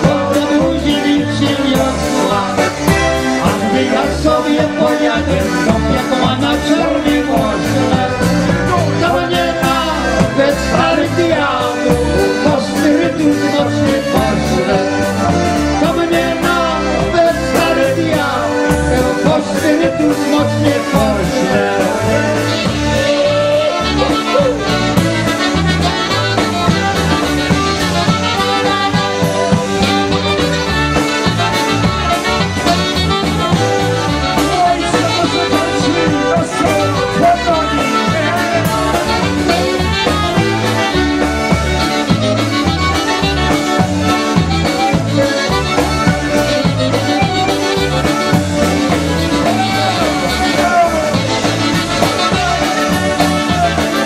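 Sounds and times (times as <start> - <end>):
concertina chords: 0.0 - 54.0
polka band playing: 0.0 - 54.0
steady bass beat: 0.0 - 54.0.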